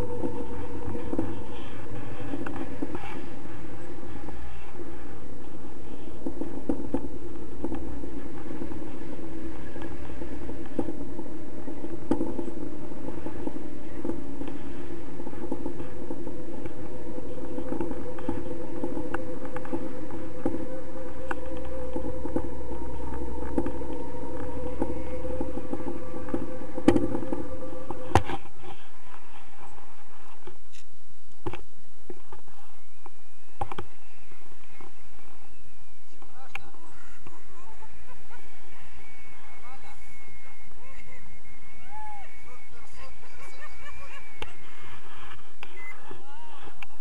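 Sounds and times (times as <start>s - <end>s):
whistling tone: 0.0s - 30.2s, 32.5s - 46.8s
wind rumble on microphone: 0.0s - 47.0s.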